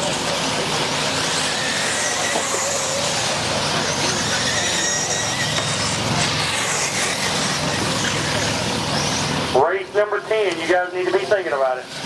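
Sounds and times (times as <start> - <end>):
high motor and gear whines: 0.0 - 9.7.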